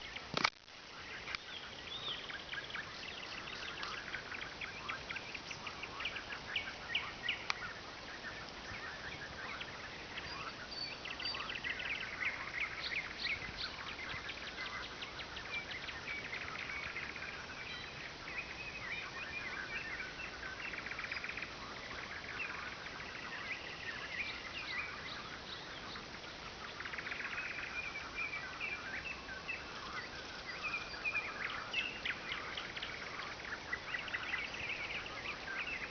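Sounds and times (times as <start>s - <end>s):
nightingales singing: 0.9s - 35.9s.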